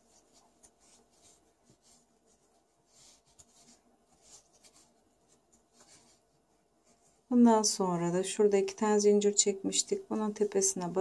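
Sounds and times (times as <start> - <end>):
crochet hook rustling yarn: 0.0 - 11.0.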